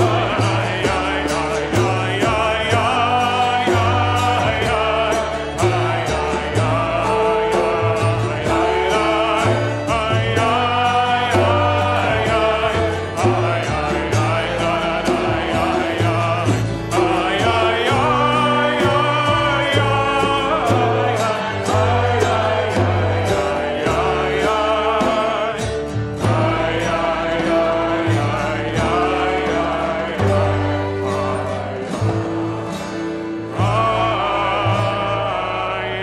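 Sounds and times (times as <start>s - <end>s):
percussion beat: 0.0s - 35.1s
acoustic guitar: 0.0s - 36.0s
congregation singing: 0.0s - 36.0s
upright bass: 0.0s - 36.0s
violin: 0.0s - 36.0s.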